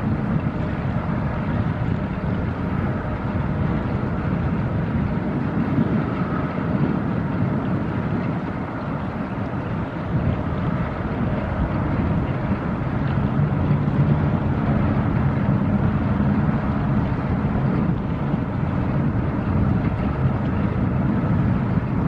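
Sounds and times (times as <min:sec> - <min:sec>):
ship diesel engine rumble: 0:00.0 - 0:22.0
wind buffeting microphone: 0:00.0 - 0:22.0.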